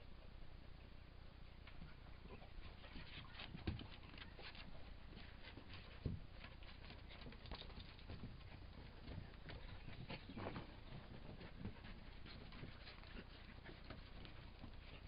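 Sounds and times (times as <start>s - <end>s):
dog claws scrabbling on wooden deck: 2.6s - 15.0s.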